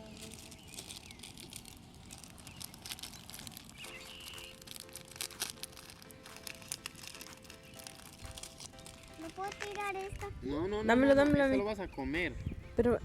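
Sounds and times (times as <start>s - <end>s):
campfire crackling and popping: 0.0s - 10.5s.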